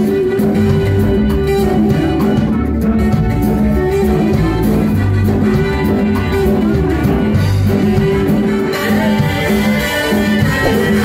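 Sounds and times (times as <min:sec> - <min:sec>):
bass guitar: 0:00.0 - 0:11.0
drums: 0:00.0 - 0:11.0
electric guitar: 0:00.0 - 0:11.0.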